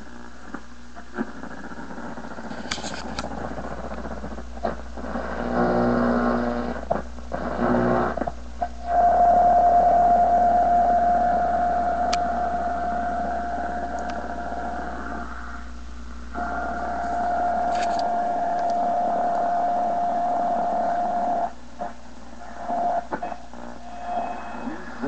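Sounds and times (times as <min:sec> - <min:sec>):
low hum: 0:00.0 - 0:25.0
radio crackles: 0:00.0 - 0:25.0
static hiss: 0:00.0 - 0:25.0
radio drone tone: 0:01.0 - 0:25.0.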